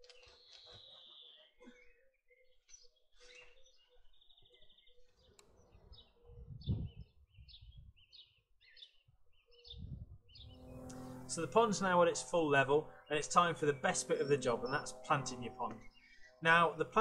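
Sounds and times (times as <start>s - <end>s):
garden birds chirping: 0.0s - 17.0s.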